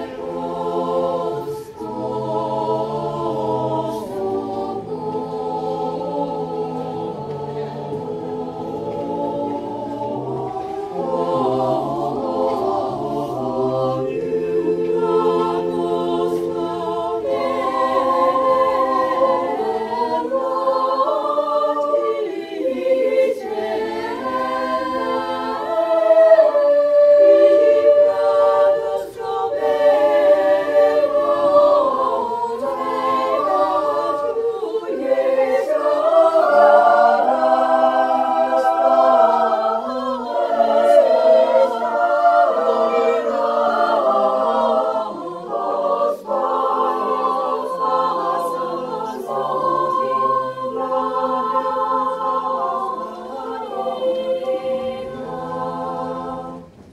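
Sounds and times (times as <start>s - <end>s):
mixed choir singing unaccompanied: 0.0s - 56.9s.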